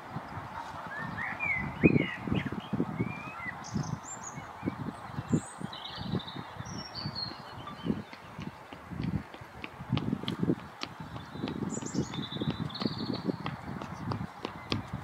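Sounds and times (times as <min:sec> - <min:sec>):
wind buffeting microphone: 0:00.0 - 0:15.0
songbirds chirping and whistling: 0:00.2 - 0:09.6, 0:10.2 - 0:15.0.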